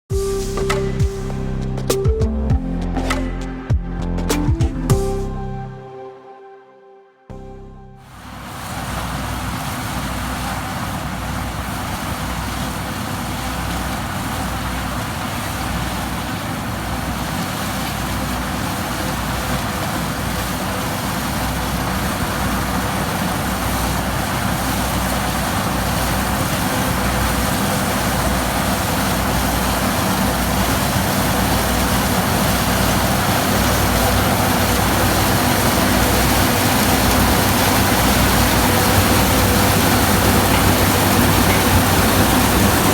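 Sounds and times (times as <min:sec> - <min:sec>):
combine harvester engine and machinery: 0:07.4 - 0:42.9.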